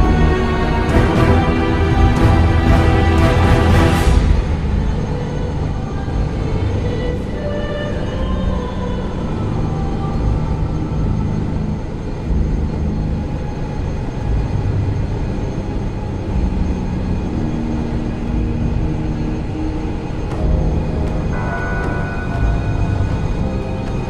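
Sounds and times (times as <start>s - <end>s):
ship engine room machinery rumble: 0.0s - 24.0s.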